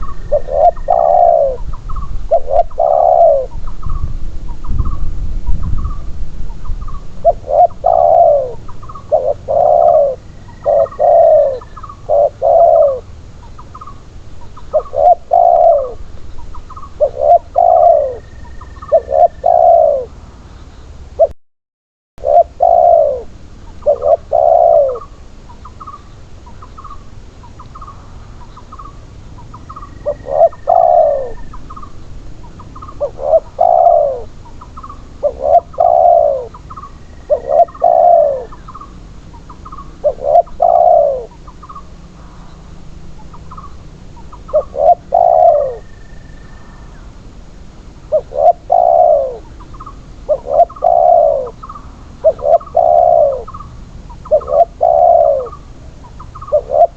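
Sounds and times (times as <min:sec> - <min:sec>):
doves cooing: 0:00.0 - 0:05.0, 0:05.8 - 0:20.2, 0:22.2 - 0:56.9.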